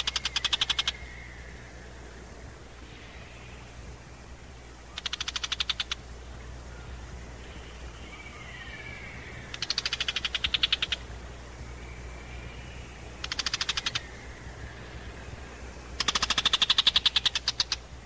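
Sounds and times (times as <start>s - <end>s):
shrike chattering alarm calls: 0.0s - 1.9s, 4.8s - 18.0s.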